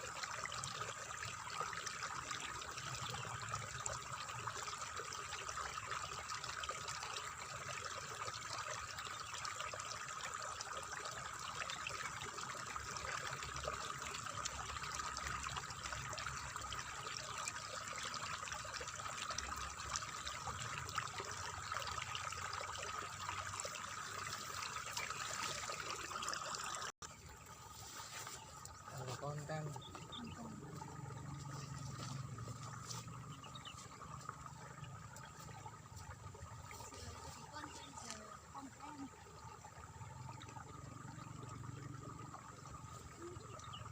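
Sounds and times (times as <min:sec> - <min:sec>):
water trickling and splashing: 0:00.0 - 0:43.9.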